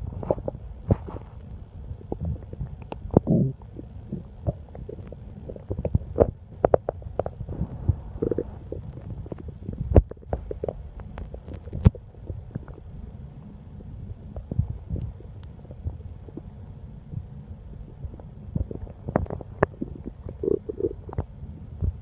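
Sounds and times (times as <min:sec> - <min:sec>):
stomach growling and gurgling: 0:00.0 - 0:22.0.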